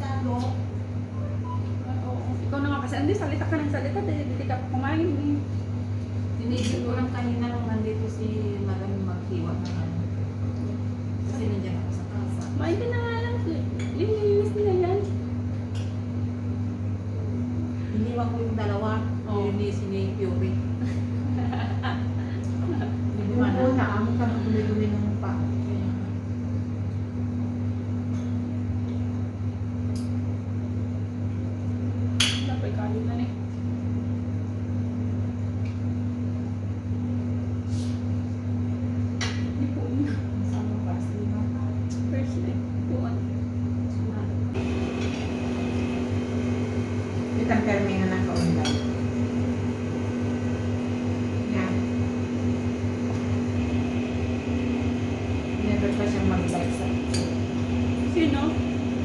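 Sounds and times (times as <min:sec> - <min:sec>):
motor humming: 0:00.0 - 0:33.2, 0:36.9 - 0:59.0.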